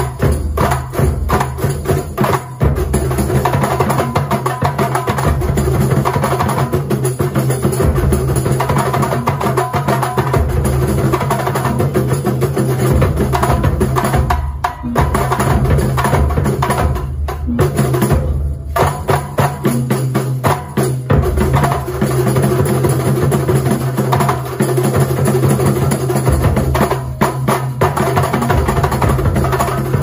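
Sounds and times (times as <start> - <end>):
layered drums and percussion: 0.0 - 30.0.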